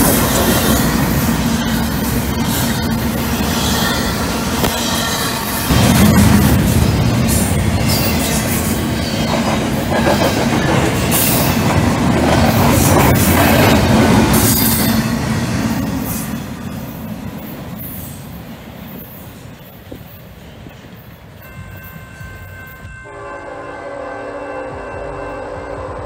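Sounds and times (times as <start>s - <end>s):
train wheels rumbling on rails: 0.0s - 23.1s.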